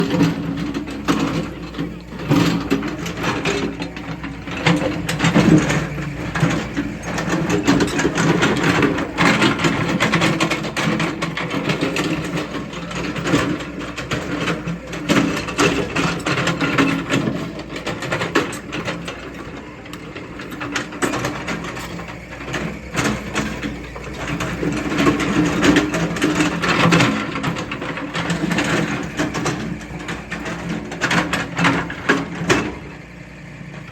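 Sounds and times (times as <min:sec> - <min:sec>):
excavator diesel engine running: 0:00.0 - 0:33.9
metallic clanks and rattles: 0:00.0 - 0:33.9.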